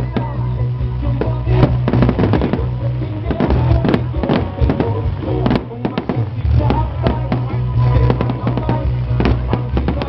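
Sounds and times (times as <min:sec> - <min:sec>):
fireworks cracking and banging: 0:00.0 - 0:10.0
loud music with bass line: 0:00.0 - 0:10.0.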